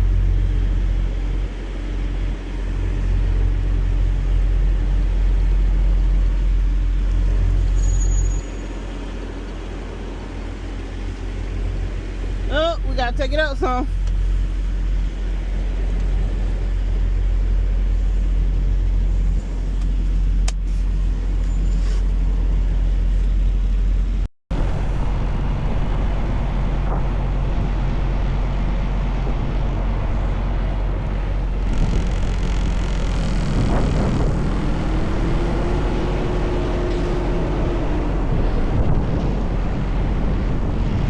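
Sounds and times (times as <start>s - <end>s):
truck diesel engine rumbling: 0.0s - 41.0s.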